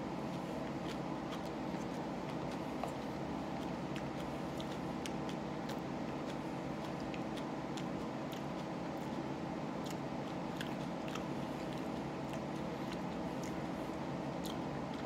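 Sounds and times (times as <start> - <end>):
mouth clicks of chewing: 0.3 - 15.0.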